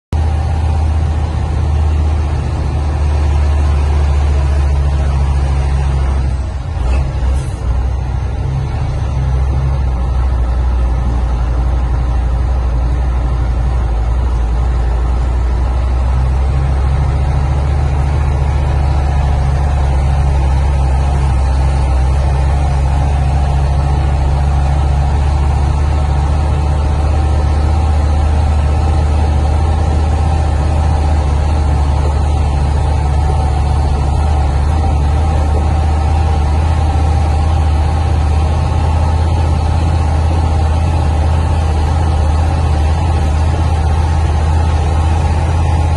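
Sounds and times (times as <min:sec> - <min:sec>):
low engine drone: 0:00.1 - 0:45.9.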